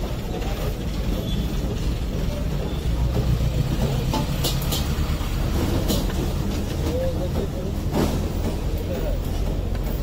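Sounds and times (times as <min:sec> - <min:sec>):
street noise rumble: 0:00.0 - 0:10.0.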